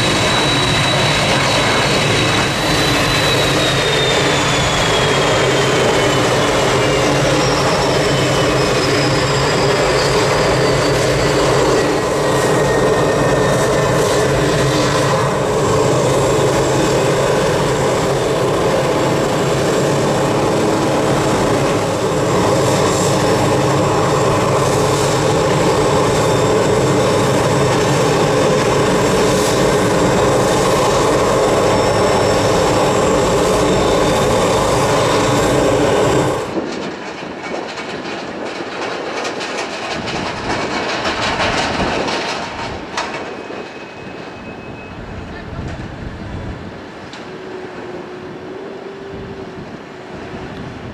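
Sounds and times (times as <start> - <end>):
aircraft mechanical hum: 0.0 - 50.9.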